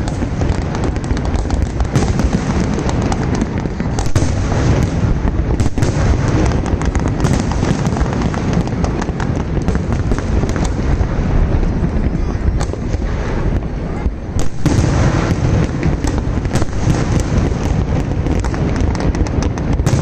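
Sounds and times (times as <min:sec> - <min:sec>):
fireworks cracks and pops: 0:00.0 - 0:20.0.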